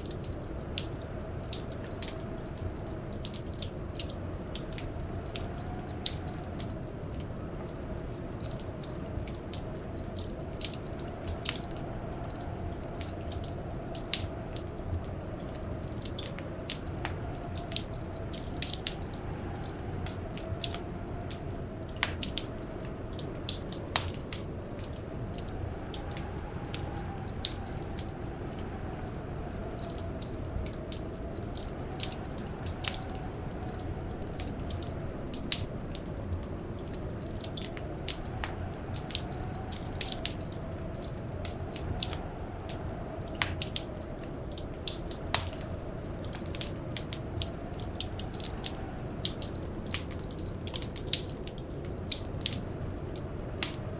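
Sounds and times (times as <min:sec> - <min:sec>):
faint whistling wind: 0:00.0 - 0:53.9
wood fire crackling: 0:00.0 - 0:53.9.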